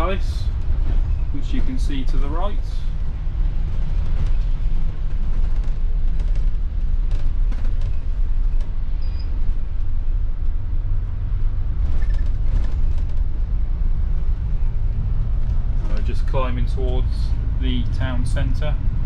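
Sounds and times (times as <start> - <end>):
bus diesel engine rumble: 0.0 - 19.0.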